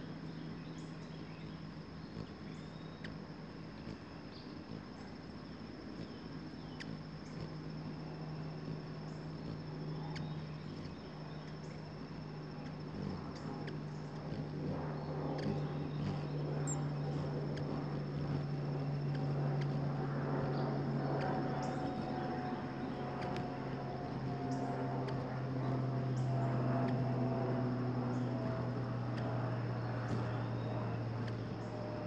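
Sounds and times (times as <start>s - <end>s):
faint high whine: 0.0s - 32.0s
hummingbird chip notes: 0.0s - 32.0s
low drone: 0.0s - 32.0s.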